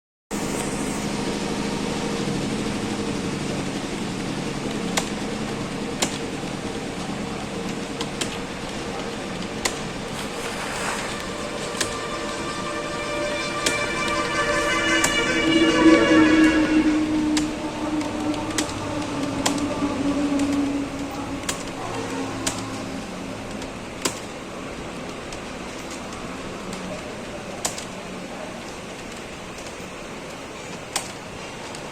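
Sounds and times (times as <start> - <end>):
machine humming: 0.3 - 31.6
steady tones: 0.4 - 27.2.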